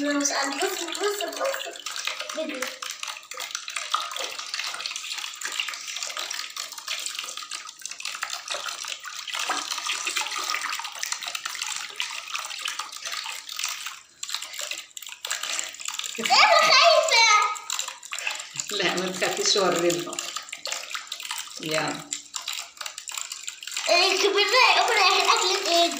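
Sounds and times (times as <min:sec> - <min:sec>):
water splashing in a plastic basin: 0:00.0 - 0:25.9.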